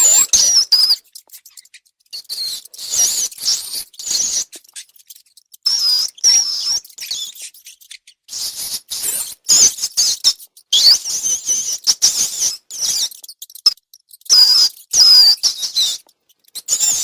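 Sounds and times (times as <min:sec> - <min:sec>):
rats squeaking: 0:00.0 - 0:17.0.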